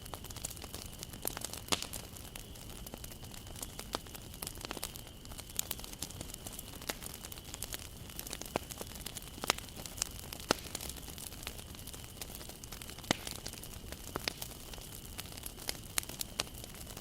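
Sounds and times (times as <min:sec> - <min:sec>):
campfire crackling and popping: 0:00.0 - 0:17.0
hiss of flames: 0:00.0 - 0:17.0.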